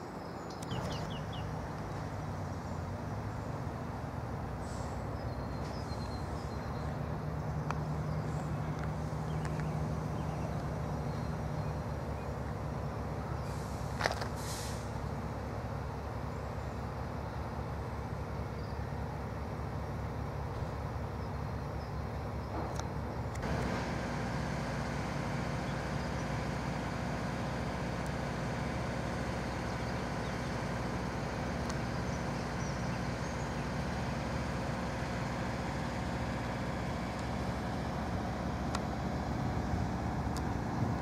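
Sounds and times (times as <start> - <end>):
birds chirping: 0.0 - 13.8, 14.9 - 23.8, 25.4 - 39.1
diesel locomotive idling: 0.0 - 41.0.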